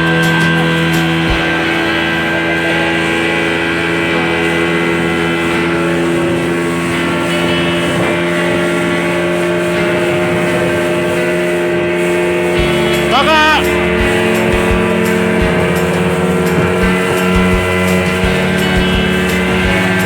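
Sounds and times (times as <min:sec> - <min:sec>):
speedboat engine running: 0:00.0 - 0:20.0
water rushing past hull: 0:00.0 - 0:20.0.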